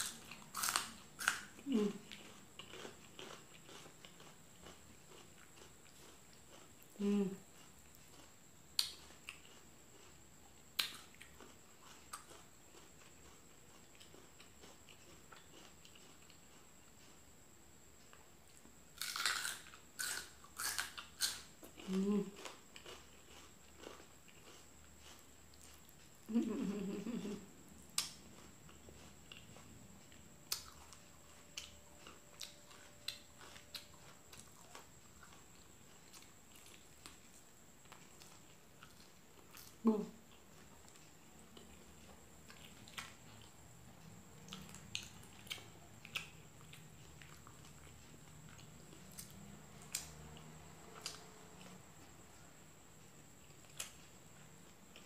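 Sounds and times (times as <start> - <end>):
person chewing and biting: 0.0 - 17.2, 18.6 - 26.2, 27.8 - 51.8.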